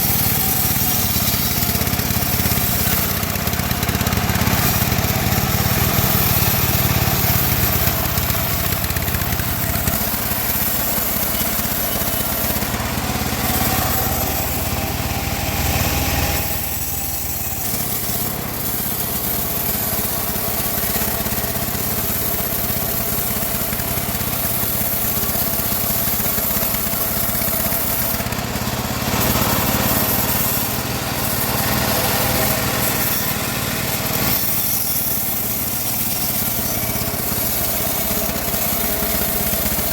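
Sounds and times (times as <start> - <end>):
band sawmill drone: 0.0 - 39.9.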